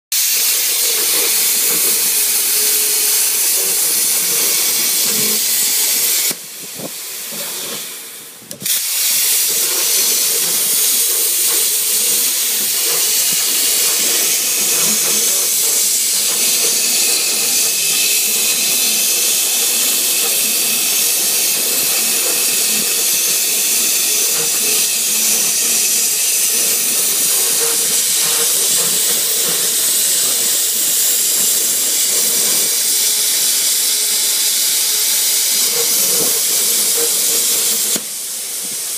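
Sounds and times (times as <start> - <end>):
loud steady hiss: 0.1 - 38.9.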